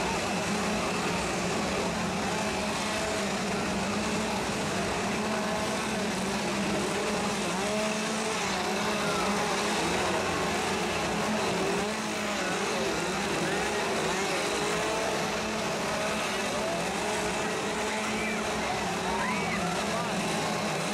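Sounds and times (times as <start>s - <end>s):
chainsaws revving: 0.0s - 20.9s.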